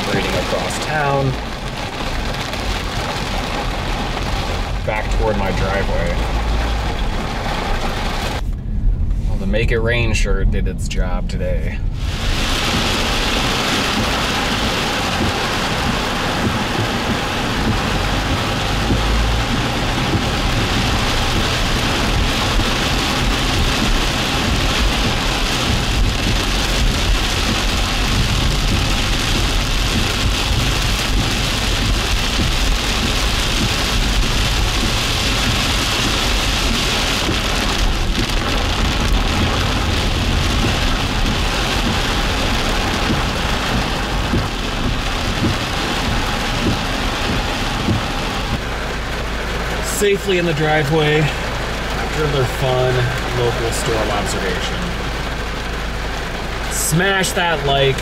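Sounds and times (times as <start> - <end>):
heavy rain falling: 0.0 - 10.2, 11.0 - 58.0
low rumble: 0.0 - 58.0.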